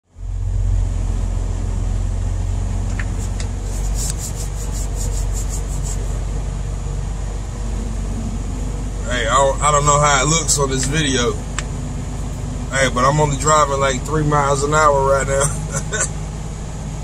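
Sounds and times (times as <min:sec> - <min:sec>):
truck diesel engine hum: 0:00.0 - 0:17.0.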